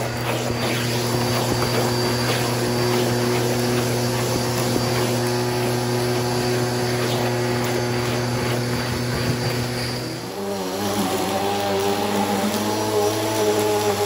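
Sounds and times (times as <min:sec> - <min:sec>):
debris ticking in hose: 0:00.0 - 0:14.0
vacuum cleaner running: 0:00.0 - 0:14.0.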